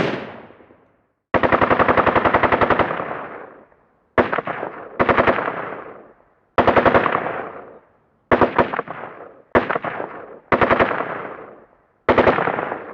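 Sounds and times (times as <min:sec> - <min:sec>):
rifle firing bursts: 0:00.0 - 0:00.7, 0:01.3 - 0:03.6, 0:04.2 - 0:12.9.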